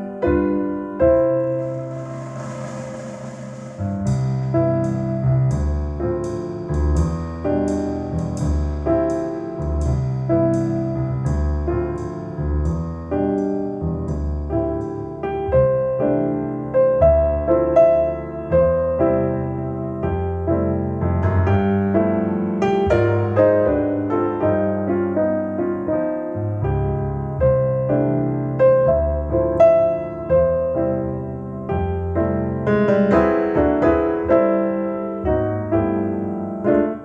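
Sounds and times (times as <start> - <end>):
piano music over speakers: 0.0 - 37.0.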